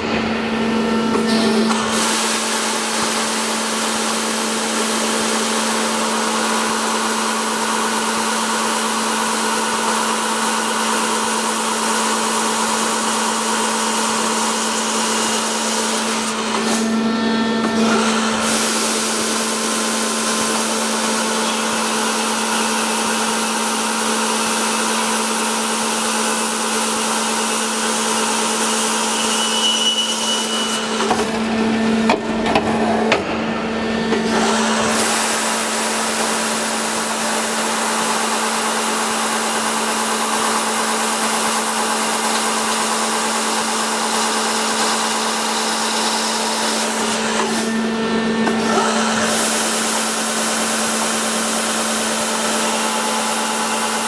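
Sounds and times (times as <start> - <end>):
industrial drill machine running: 0.0 - 54.0.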